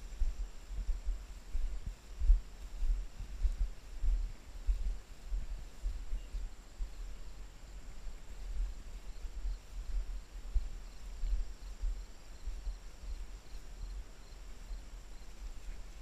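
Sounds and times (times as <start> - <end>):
faint insect chirps: 0.0 - 16.0
low uneven microphone rumble: 0.0 - 16.0.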